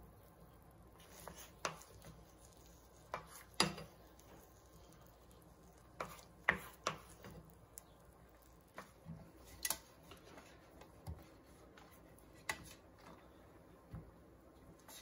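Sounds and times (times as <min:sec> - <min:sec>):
brushing oil on baking sheet: 0:00.0 - 0:13.2, 0:14.8 - 0:15.0.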